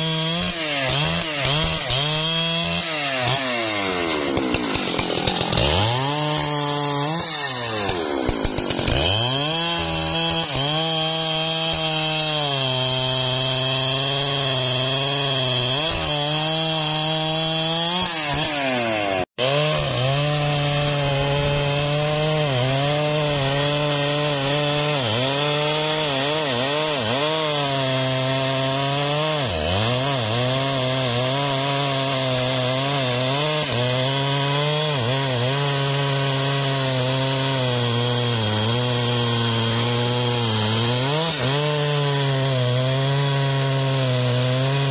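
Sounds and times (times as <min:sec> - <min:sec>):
chainsaw cutting log: 0:00.0 - 0:44.9.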